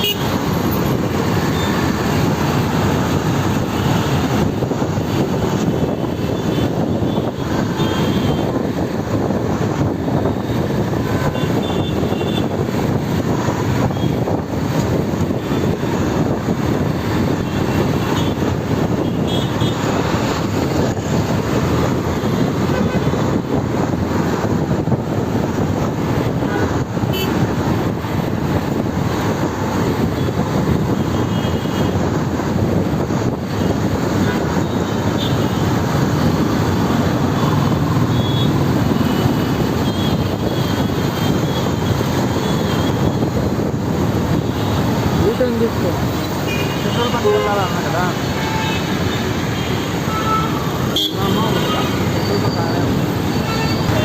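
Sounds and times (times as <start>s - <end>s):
motorcycle engine and road noise: 0.0s - 54.0s.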